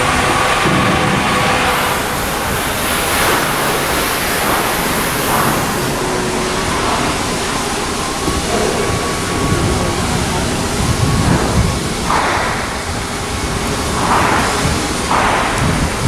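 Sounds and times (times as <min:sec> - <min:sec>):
high hiss: 0:00.0 - 0:16.0
shipyard construction noise: 0:00.0 - 0:16.0.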